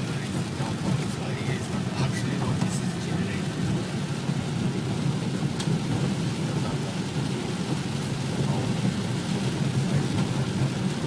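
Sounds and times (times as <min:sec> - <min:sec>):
rain hiss: 0:00.0 - 0:11.0
vehicle road rumble: 0:00.0 - 0:11.0.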